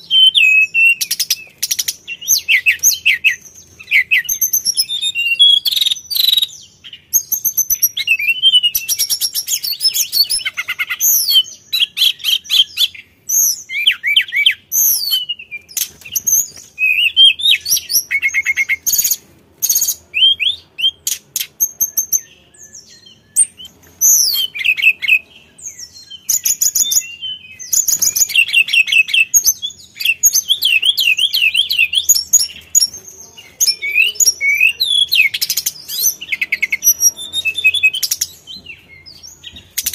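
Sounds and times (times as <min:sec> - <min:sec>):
bird singing whistled phrases and trills: 0:00.0 - 0:39.9.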